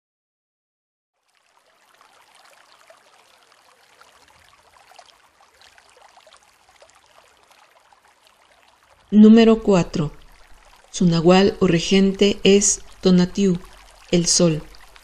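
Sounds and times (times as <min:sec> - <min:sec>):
water drops ticking: 0:01.4 - 0:15.0.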